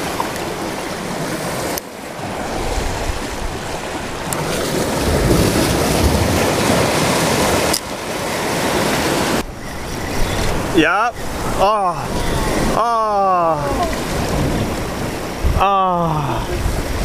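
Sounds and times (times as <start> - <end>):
surf breaking over rocks: 0.0 - 17.0
wind buffeting microphone: 2.2 - 7.8, 8.6 - 17.0.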